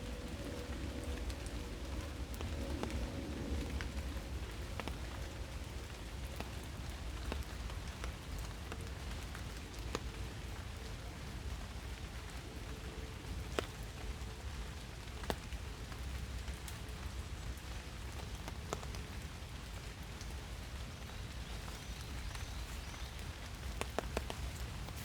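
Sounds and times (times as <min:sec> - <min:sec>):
close raindrops striking: 0:00.0 - 0:25.0
rain falling in forest: 0:00.0 - 0:25.0.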